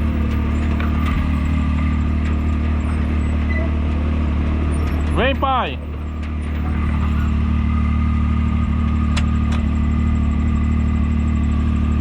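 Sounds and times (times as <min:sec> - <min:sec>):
engine running with whine: 0:00.0 - 0:12.0.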